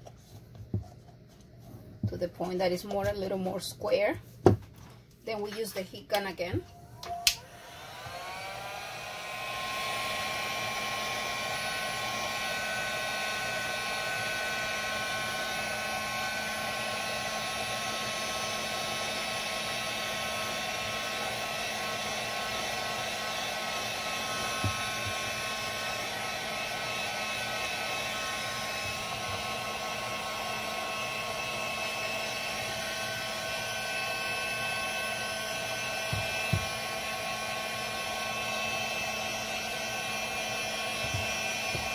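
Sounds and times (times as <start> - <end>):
heat gun fan whining: 5.3 - 41.9.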